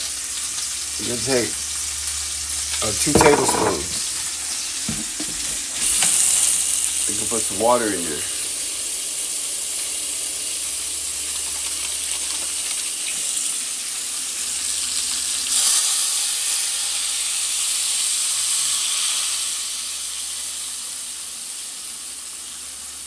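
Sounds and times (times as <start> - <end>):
broth sizzling in hot pan: 0.0 - 23.0.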